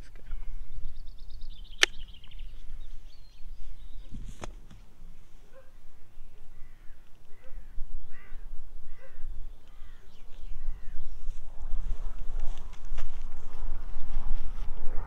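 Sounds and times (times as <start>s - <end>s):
bird calling: 0.0s - 14.1s
wind rumble on microphone: 0.0s - 15.0s.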